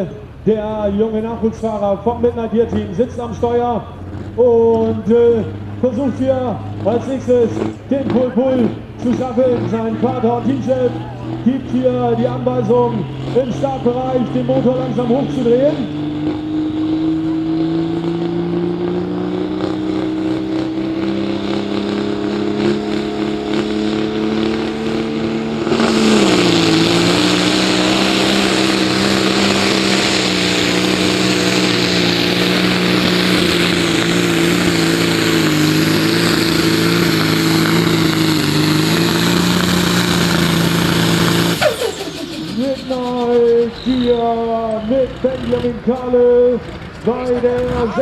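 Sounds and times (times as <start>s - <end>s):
tractor diesel engine revving: 0.0s - 48.0s.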